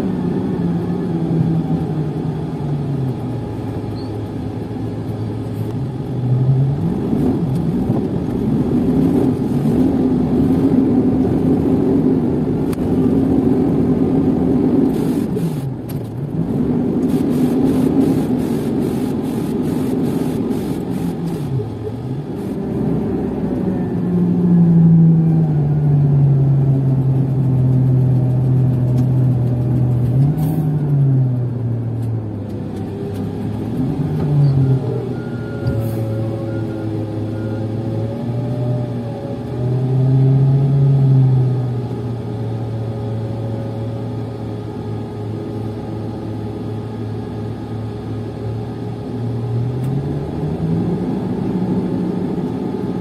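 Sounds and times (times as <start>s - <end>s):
crane diesel engine: 0.0s - 50.4s.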